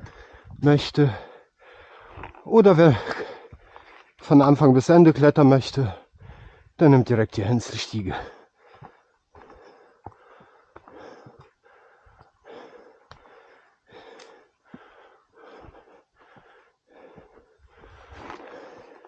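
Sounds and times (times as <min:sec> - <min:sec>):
person breathing hard: 0:00.0 - 0:04.0, 0:06.0 - 0:06.8, 0:08.2 - 0:19.0.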